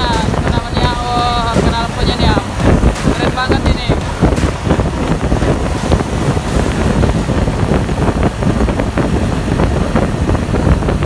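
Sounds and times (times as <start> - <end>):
low rumble of vehicles: 0.0 - 11.0
wind buffeting microphone: 0.0 - 11.0.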